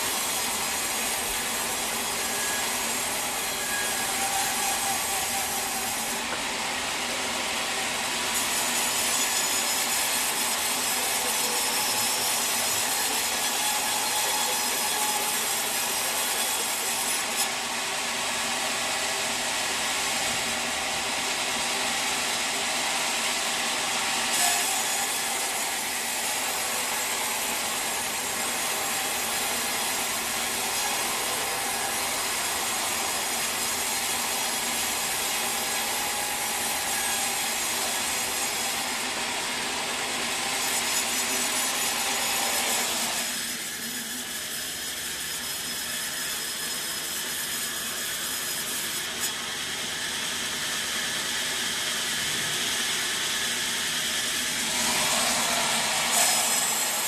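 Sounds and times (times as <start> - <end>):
sawmill saw cutting log: 0.0 - 57.0.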